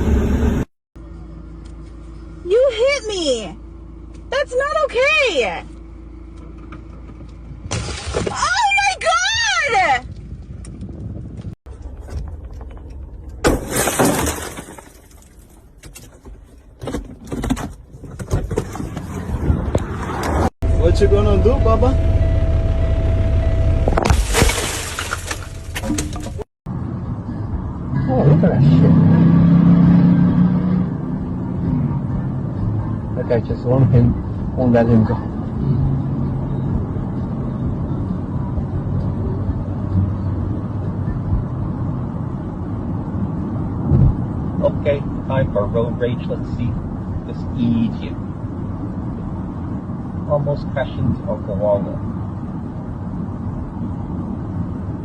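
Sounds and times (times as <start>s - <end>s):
car and road noise: 0.0s - 55.0s.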